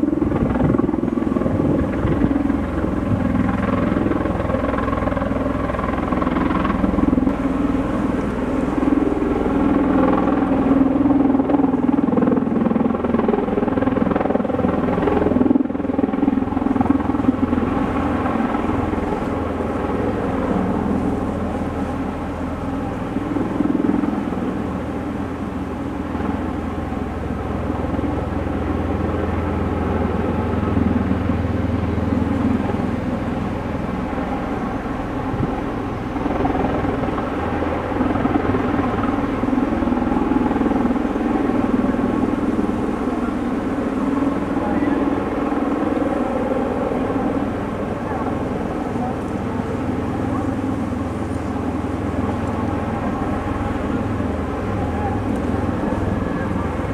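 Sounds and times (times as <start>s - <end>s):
tiltrotor aircraft hovering drone: 0.0s - 56.9s.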